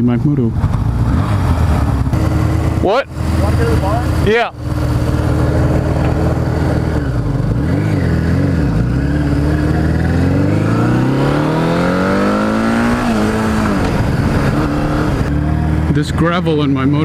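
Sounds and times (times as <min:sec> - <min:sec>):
dirt bike engine accelerating: 0:00.5 - 0:17.0.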